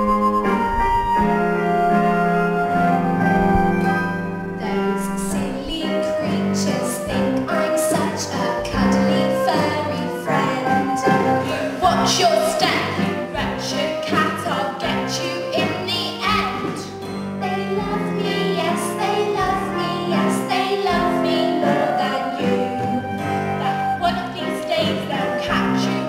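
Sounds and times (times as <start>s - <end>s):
instrumental accompaniment: 0.0s - 26.0s
singing voices: 4.6s - 26.0s.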